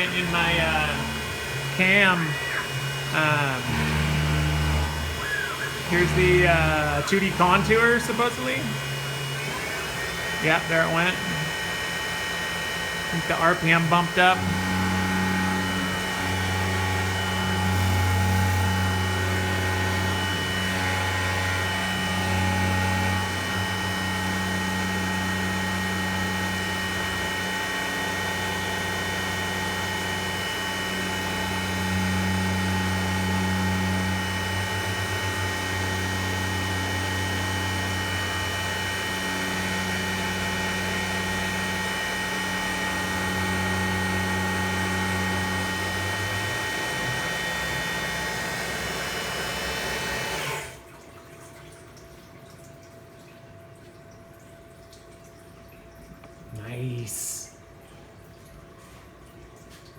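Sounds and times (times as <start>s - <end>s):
milling machine whining: 0.0s - 50.9s.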